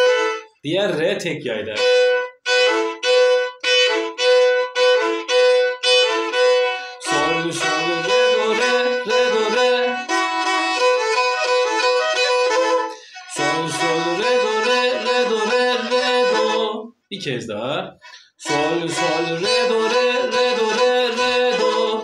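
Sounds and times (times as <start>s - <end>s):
bowed fiddle playing: 0.0s - 16.9s, 18.0s - 22.0s.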